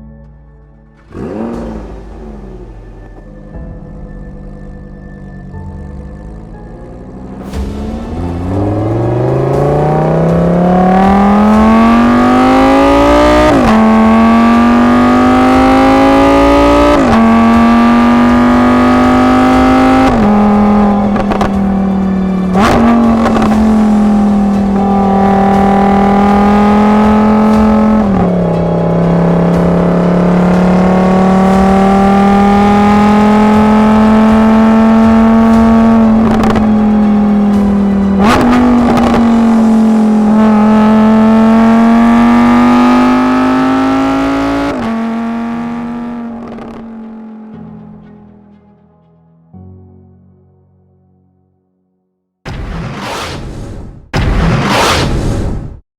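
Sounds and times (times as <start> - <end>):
sports car engine accelerating: 0.9 - 48.0.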